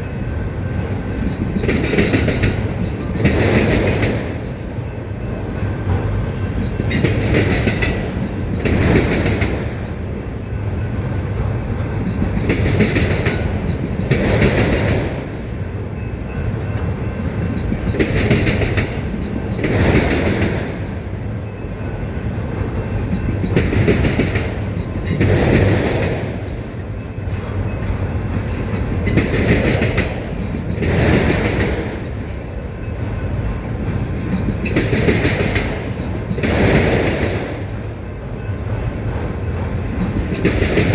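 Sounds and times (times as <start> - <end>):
wheels clacking over rail: 0.9 - 10.0, 11.0 - 21.0, 22.6 - 32.5, 33.8 - 37.7, 39.1 - 40.9.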